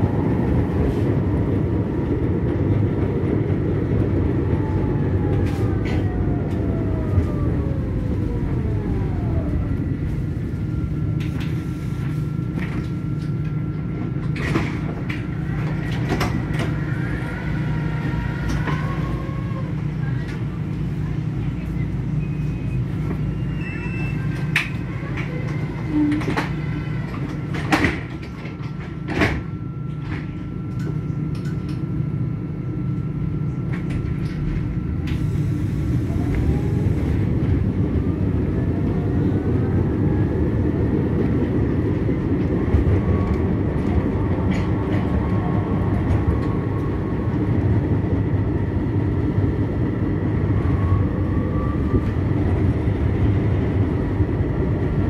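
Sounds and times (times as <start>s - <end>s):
tram low hum: 0.0s - 55.0s.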